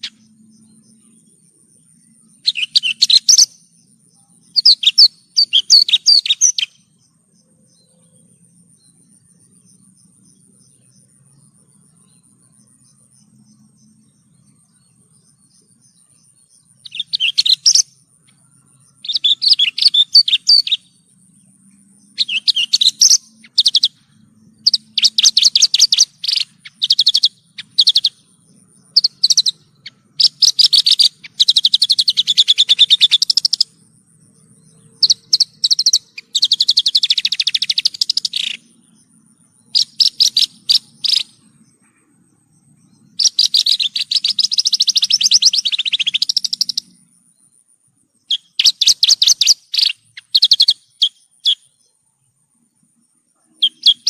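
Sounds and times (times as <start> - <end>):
bushlark chirping and trilling: 0.0 - 51.9, 52.9 - 54.0.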